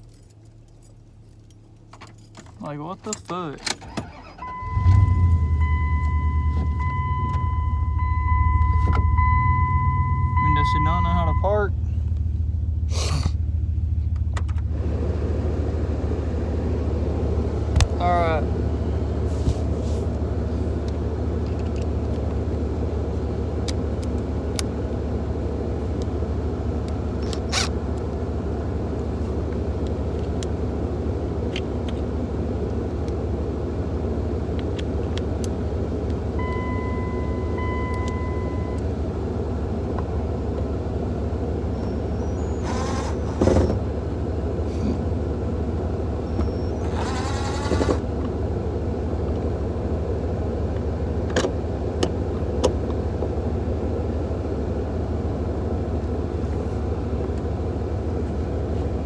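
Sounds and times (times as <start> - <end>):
engine low rumble: 0.0 - 59.0.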